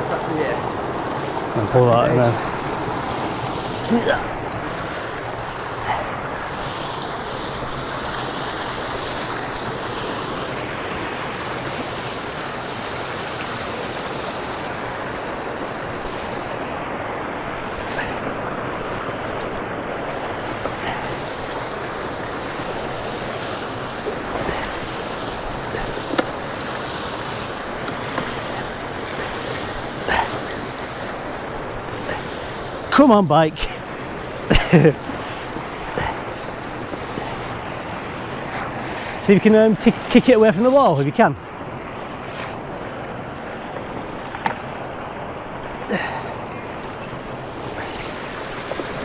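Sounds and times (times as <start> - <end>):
water gushing from pipe: 0.0 - 49.0.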